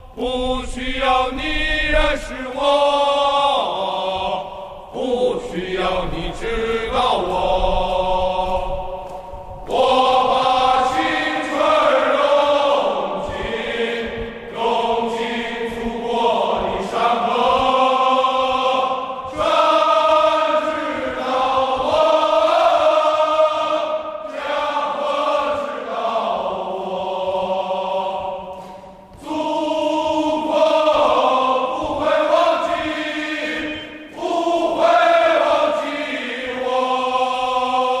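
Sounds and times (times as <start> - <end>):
slow reverberant singing: 0.0 - 38.0.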